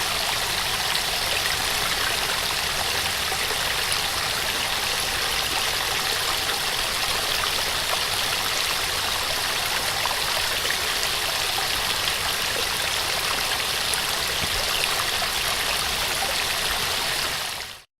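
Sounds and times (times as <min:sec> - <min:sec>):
small waterfall pouring: 0:00.0 - 0:17.8.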